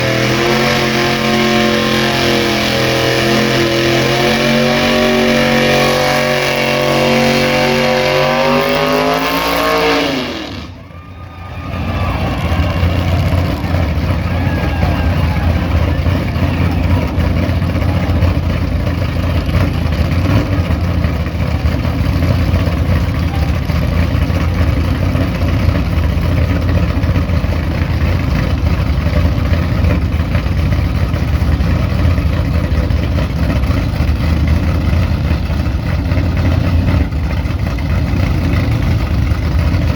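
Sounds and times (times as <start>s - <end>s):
car engine revving in burnout: 0.0s - 39.9s.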